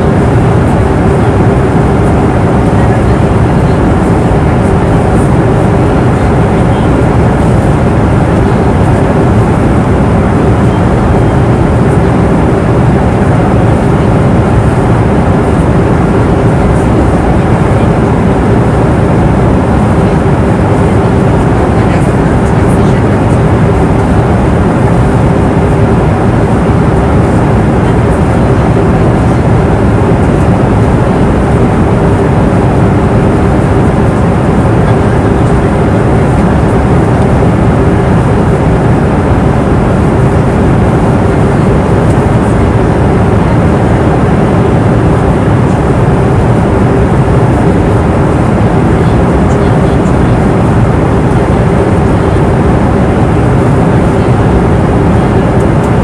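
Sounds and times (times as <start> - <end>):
airliner cabin noise: 0.0 - 56.0
faint steady hum: 0.0 - 56.0.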